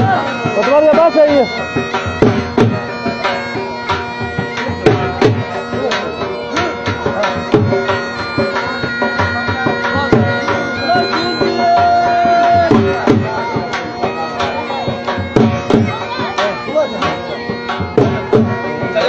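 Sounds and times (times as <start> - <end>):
droning wind instrument: 0.0 - 19.0
drum beating quick rhythm: 0.0 - 19.0.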